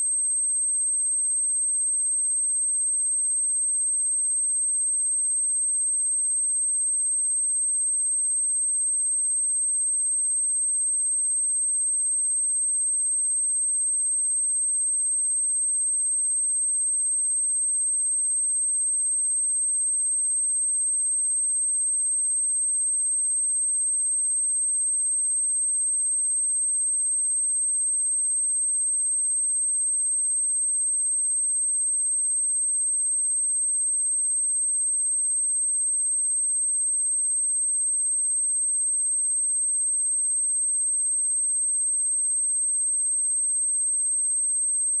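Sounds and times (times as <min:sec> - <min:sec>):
high-pitched sine-wave test tone: 0:00.0 - 0:45.0.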